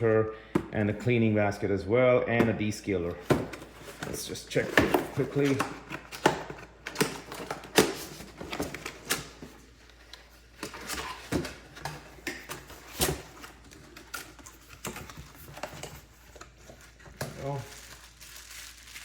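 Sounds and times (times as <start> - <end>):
cardboard and wrapping rustling: 2.8 - 19.0.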